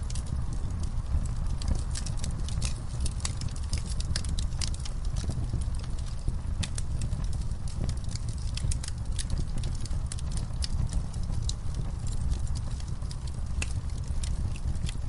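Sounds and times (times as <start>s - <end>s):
campfire crackles and pops: 0.0s - 15.0s
low fire rumble: 0.0s - 15.0s.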